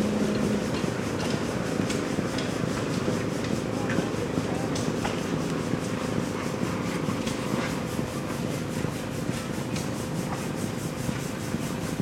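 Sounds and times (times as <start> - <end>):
steam engine hissing and clattering: 0.0 - 12.0.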